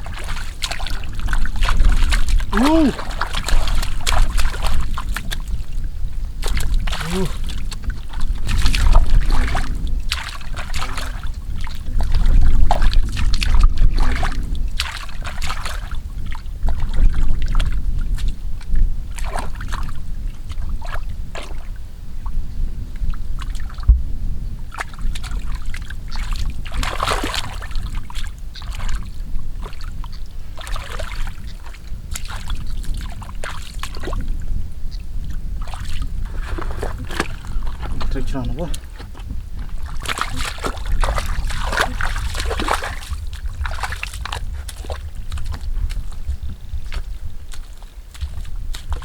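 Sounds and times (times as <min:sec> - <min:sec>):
muddy water sloshing and splashing: 0:00.0 - 0:22.4, 0:23.0 - 0:23.9, 0:24.6 - 0:49.0.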